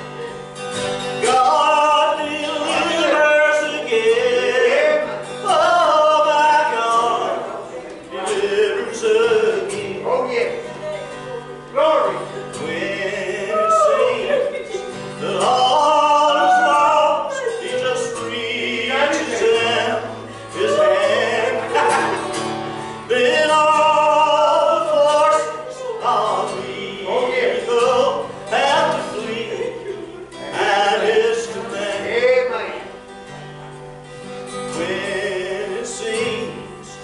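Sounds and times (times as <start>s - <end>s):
acoustic guitar: 0.0s - 37.0s
man singing gospel song: 1.1s - 33.0s, 34.5s - 37.0s.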